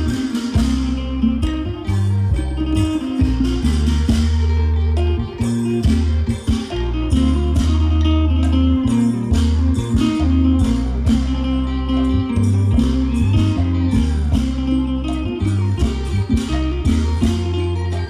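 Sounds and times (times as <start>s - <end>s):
deep bass notes: 0.0s - 18.0s
percussion strikes: 0.0s - 18.0s
plucked lute melody: 0.0s - 18.0s.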